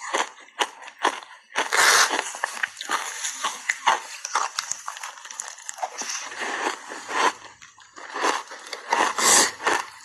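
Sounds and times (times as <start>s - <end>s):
ice being crunched and chewed: 0.0s - 10.0s.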